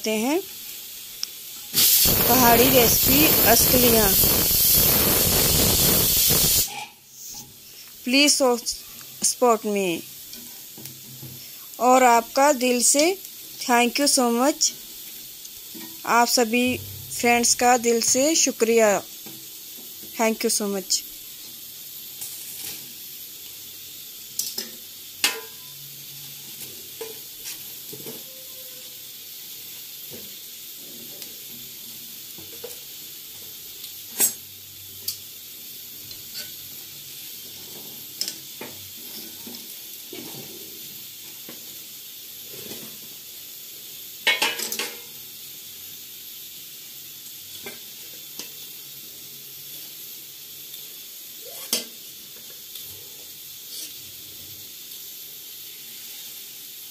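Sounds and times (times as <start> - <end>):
cakes sizzling in pan: 0.0 - 56.9.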